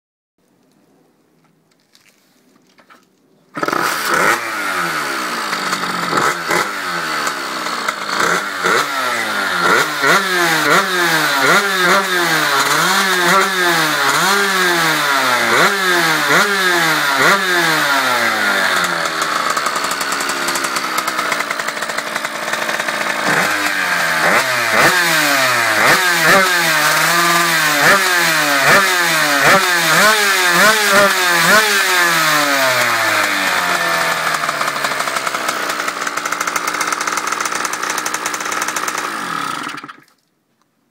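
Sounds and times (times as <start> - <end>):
buggy engine revving: 3.6 - 40.0.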